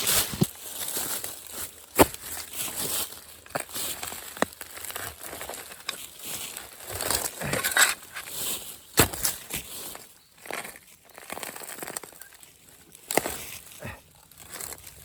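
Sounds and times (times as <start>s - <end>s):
dry leaves crunching and rustling: 0.0s - 15.0s.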